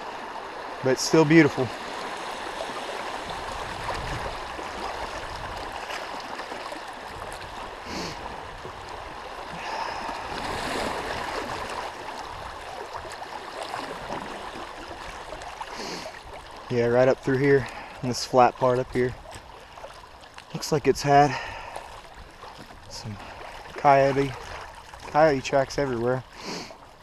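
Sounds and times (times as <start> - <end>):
river current flowing: 0.0 - 27.0.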